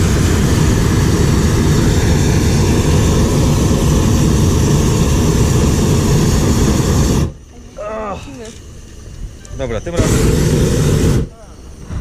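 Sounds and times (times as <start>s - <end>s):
propane burner blast: 0.0s - 12.0s.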